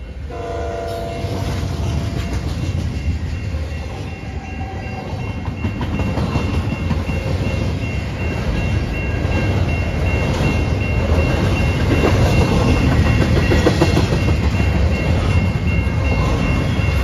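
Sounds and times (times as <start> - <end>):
crossing bell ringing: 0.0 - 17.0
freight train rumbling past: 0.0 - 17.0.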